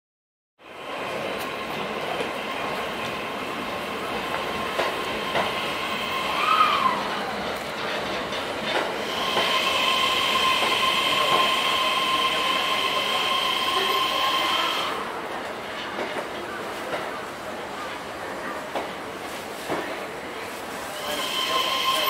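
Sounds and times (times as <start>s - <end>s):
train wheels rolling on rails: 0.7s - 22.0s.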